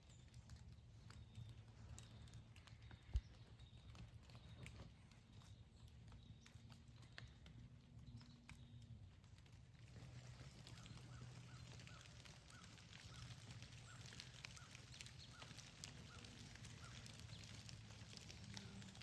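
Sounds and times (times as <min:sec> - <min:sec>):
raindrops ticking: 0:00.0 - 0:19.0.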